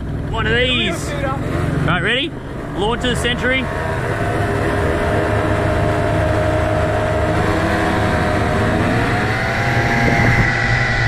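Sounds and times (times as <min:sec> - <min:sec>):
scooter engines accelerating: 0:00.0 - 0:11.0.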